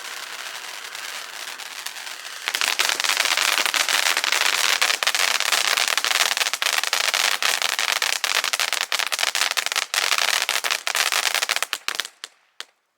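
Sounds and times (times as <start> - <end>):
firework hiss: 0.0 - 12.2
firework crackling pops: 0.0 - 12.8.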